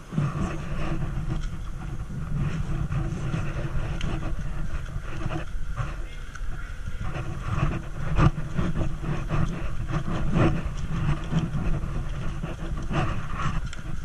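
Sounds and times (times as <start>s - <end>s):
footsteps on wooden walkway: 0.0s - 14.0s
steady low rumble: 0.0s - 14.0s.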